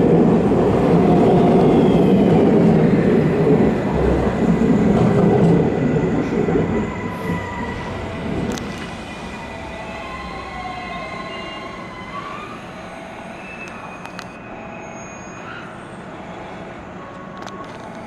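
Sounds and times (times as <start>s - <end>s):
electric train slowing: 0.0s - 18.0s.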